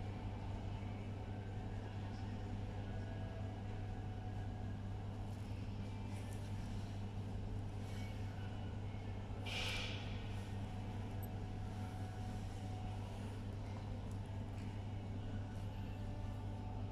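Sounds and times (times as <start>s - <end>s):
low background hum: 0.0s - 16.9s.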